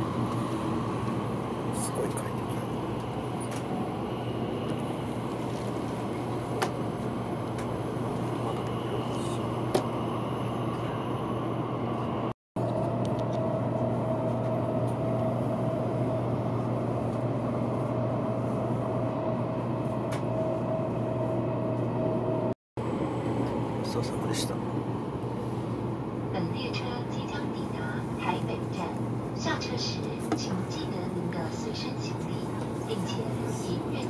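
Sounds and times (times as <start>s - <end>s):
train cabin rumble and hum: 0.0s - 34.0s.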